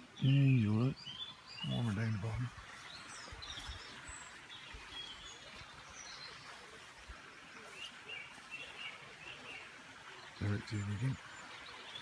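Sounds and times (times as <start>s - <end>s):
birds chirping and trilling: 0.0s - 12.0s
quiet outdoor background noise: 0.0s - 12.0s.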